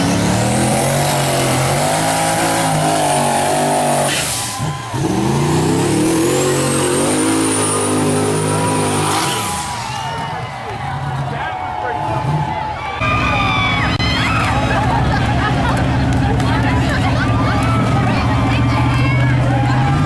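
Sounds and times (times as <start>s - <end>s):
truck engine revving with whine: 0.0s - 20.0s.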